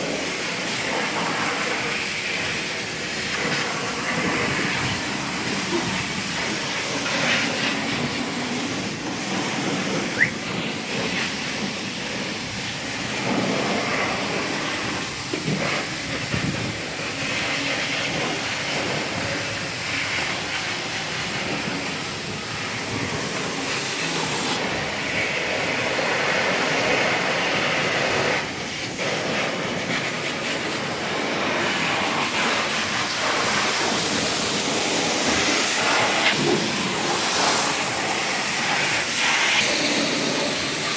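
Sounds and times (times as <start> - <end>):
pressure washer spraying water: 0.0 - 40.9.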